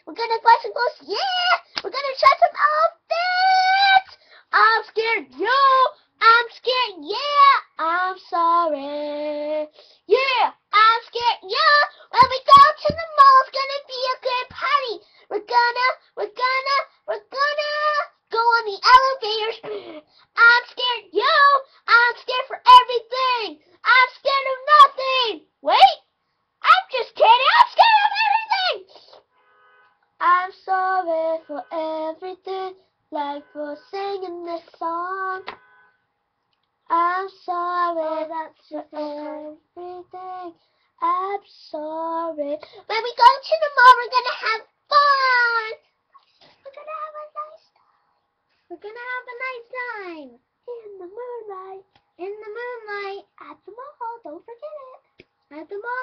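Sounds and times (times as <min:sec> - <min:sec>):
boy singing unaccompanied: 0:00.0 - 0:26.0, 0:26.6 - 0:29.2, 0:30.2 - 0:35.6, 0:36.8 - 0:45.8, 0:46.5 - 0:47.7, 0:48.7 - 0:56.0.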